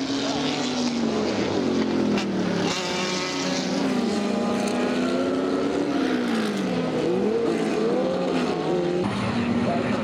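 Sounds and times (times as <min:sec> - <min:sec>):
racing car engines: 0:00.0 - 0:10.0.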